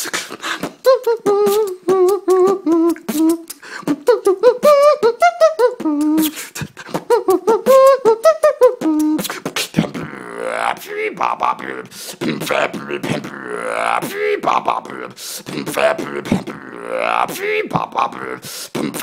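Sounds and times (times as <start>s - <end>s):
beatboxing mouth percussion: 0.0s - 19.0s
person humming a tune: 0.0s - 19.0s.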